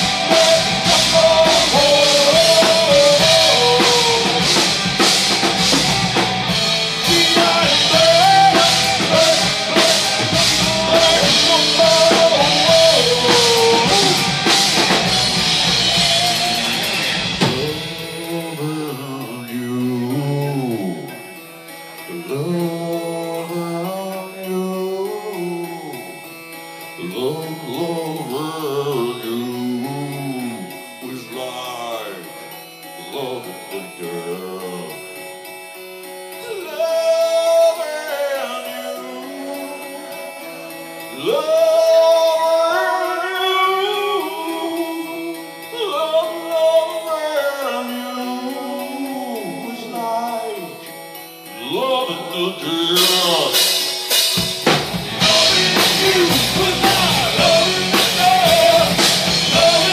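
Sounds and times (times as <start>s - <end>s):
heavy metal band playing: 0.0s - 59.9s
melodic guitar line with bending notes: 0.0s - 59.9s.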